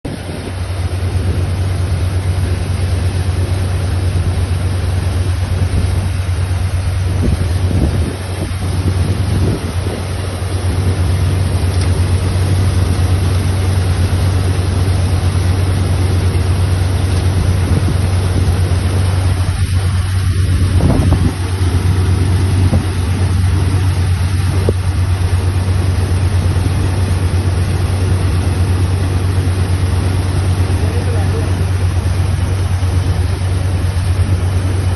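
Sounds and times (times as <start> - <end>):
combine harvester engine hum: 0.0 - 34.9.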